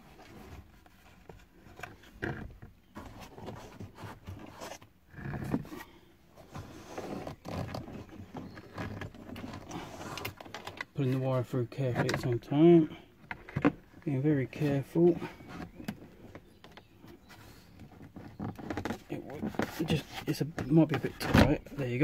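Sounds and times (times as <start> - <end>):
plastic trim rubbing and scraping: 0.0 - 11.2, 11.8 - 22.0.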